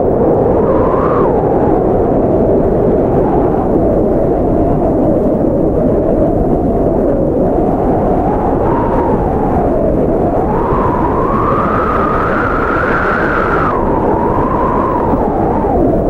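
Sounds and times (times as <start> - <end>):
blizzard wind whistling: 0.0 - 16.0.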